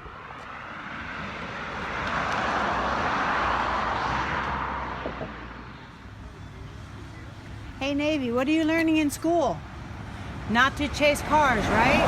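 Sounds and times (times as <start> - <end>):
road vehicle passing by: 0.0 - 12.0.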